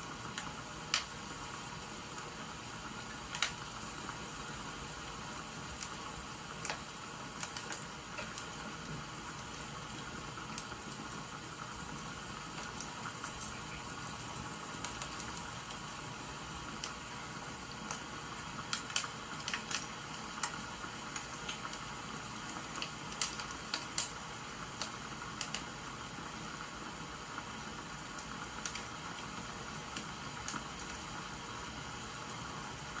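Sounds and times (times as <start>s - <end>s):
firewood crackling: 0.0s - 31.4s
rain hissing: 0.0s - 33.0s.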